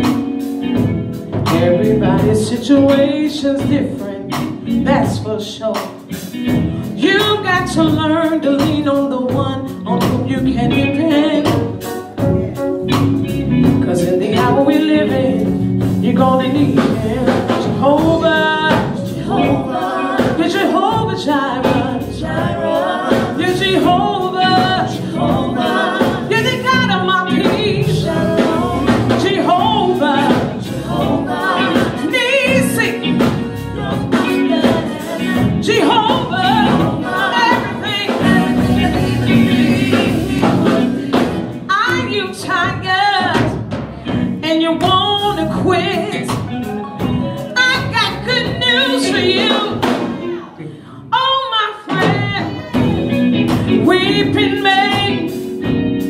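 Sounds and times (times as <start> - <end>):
drums: 0.0 - 50.5, 51.4 - 56.0
bass guitar: 0.0 - 50.6, 51.9 - 56.0
woman singing: 1.4 - 12.4, 13.6 - 55.5.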